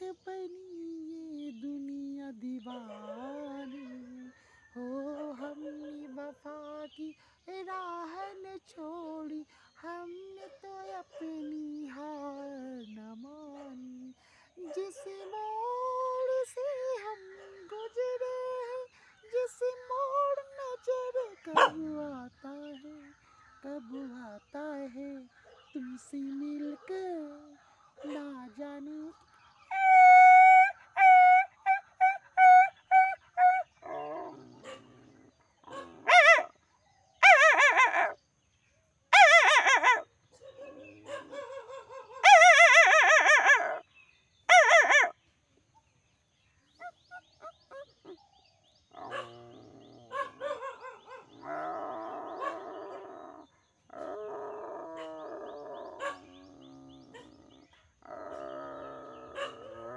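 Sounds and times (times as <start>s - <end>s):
man imitating dog howls: 0.0s - 7.0s, 7.6s - 36.5s, 37.2s - 38.2s, 39.2s - 40.0s, 40.7s - 43.8s, 44.5s - 45.1s, 49.0s - 59.9s
dog barking and howling: 2.6s - 7.0s, 9.8s - 38.2s, 39.1s - 43.9s, 44.5s - 45.2s, 46.8s - 59.9s.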